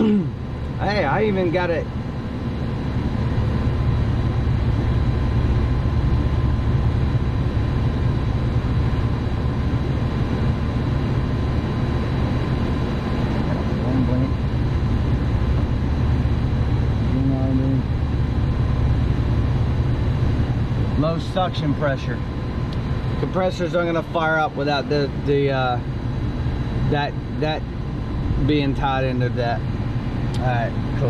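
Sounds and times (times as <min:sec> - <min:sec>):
faint steady whine: 0:00.0 - 0:31.0
rooftop air conditioner blower running: 0:00.0 - 0:31.0.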